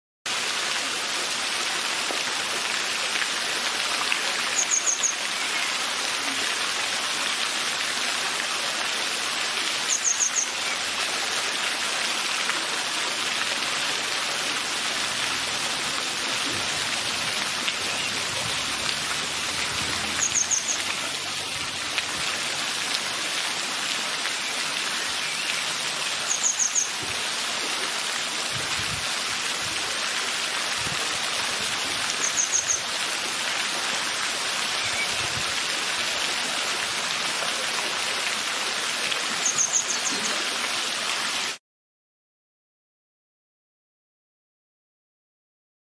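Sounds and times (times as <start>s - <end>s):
stream water rushing: 0.3s - 41.6s.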